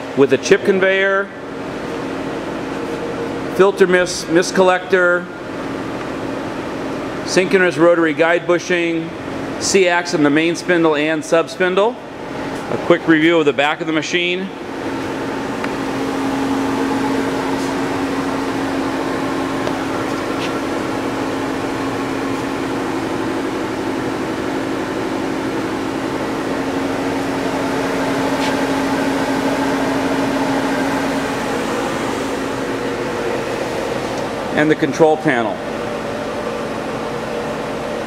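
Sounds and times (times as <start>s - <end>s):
machinery hum: 0.0s - 38.0s.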